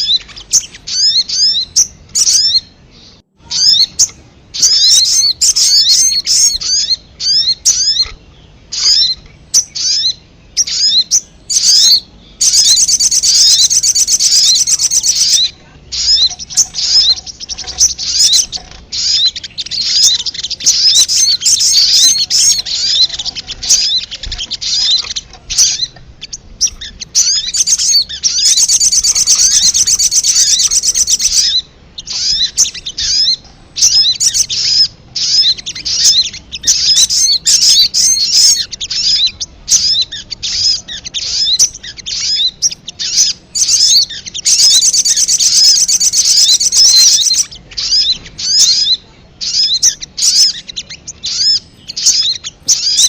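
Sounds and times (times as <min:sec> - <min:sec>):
bird calling with high chirps: 0:00.0 - 0:53.0.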